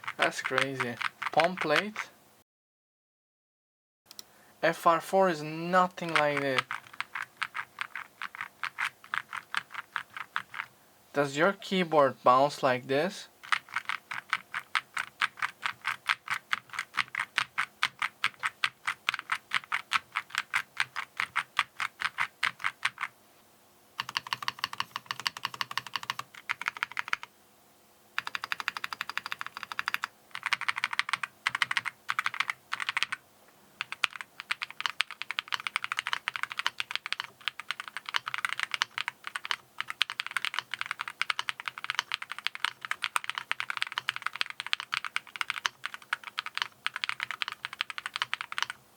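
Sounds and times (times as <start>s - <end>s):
fast mechanical keyboard typing: 0.0s - 2.0s, 5.8s - 10.7s, 13.4s - 23.1s, 24.0s - 27.3s, 28.2s - 33.2s, 33.8s - 48.8s.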